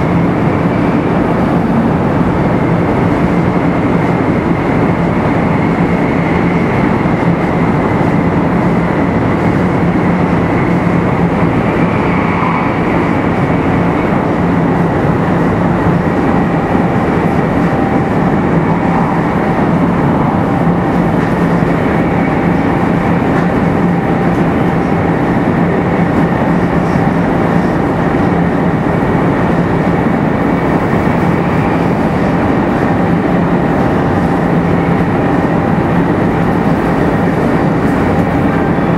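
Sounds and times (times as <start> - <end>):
train running noise: 0.0 - 38.9.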